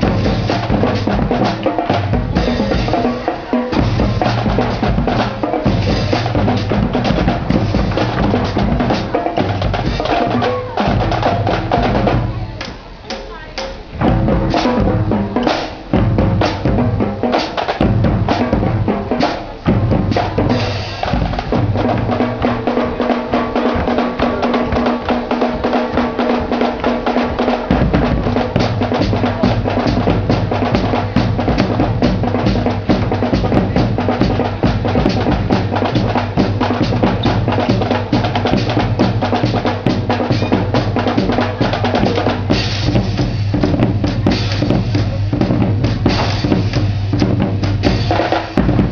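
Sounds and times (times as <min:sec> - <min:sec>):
snare and bass drums: 0:00.0 - 0:48.9.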